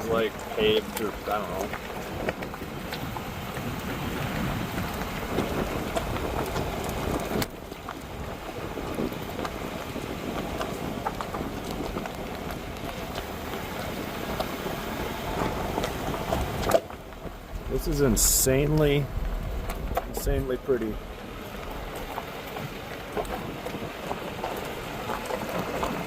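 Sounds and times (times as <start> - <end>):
small rattles and clicks: 0.0 - 26.0
tyre and wind rumble: 0.0 - 26.0.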